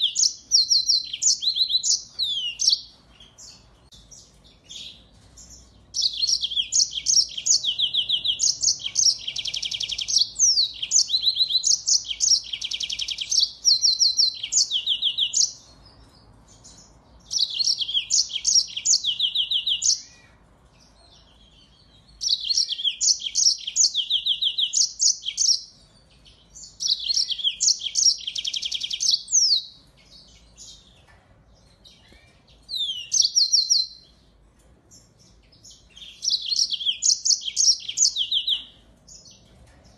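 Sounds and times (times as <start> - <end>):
finch trilling and chirping: 0.0 - 34.3, 34.9 - 39.9.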